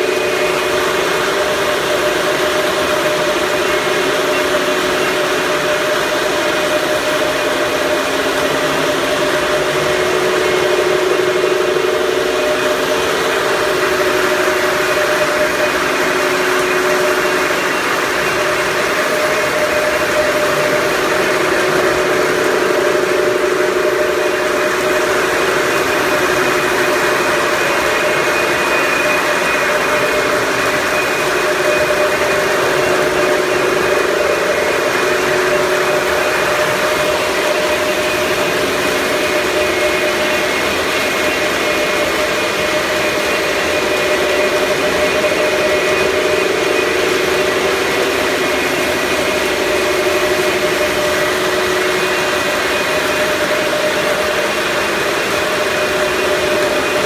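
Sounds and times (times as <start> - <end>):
mechanical hum with held tones: 0.0 - 57.0.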